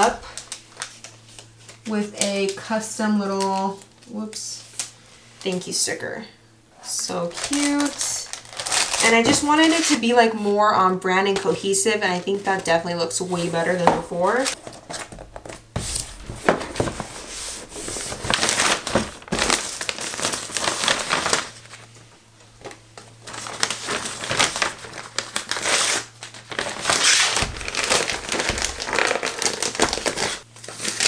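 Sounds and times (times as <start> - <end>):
plastic mailer bag crinkling: 0.0 - 4.9, 6.8 - 10.6, 11.3 - 31.0.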